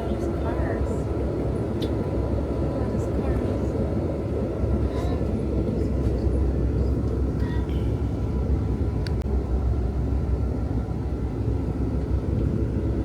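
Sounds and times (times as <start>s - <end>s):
low rumble of moving vehicle: 0.0s - 13.0s.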